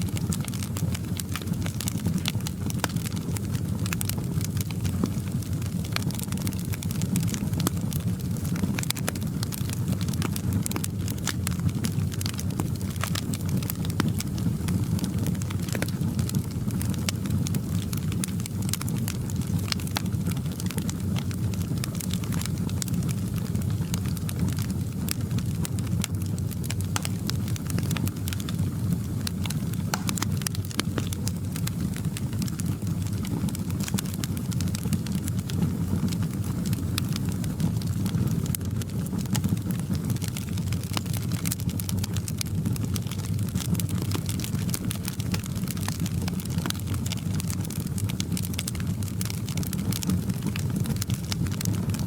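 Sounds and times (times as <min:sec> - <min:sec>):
fire crackling and popping: 0:00.0 - 0:52.0
low rumble of fire: 0:00.0 - 0:52.0.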